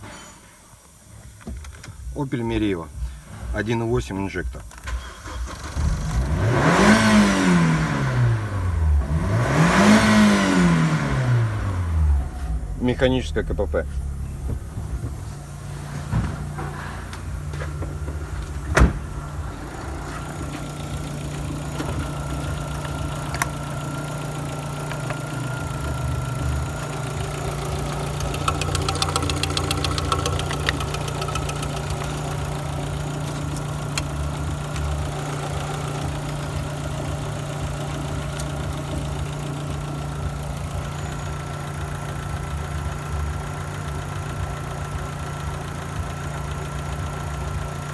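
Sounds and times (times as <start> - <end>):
car engine idling: 0.8 - 47.9.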